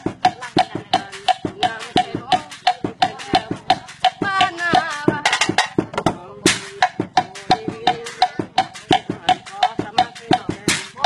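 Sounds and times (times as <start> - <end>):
sticks knocking bamboo tube drum: 0.0 - 11.0.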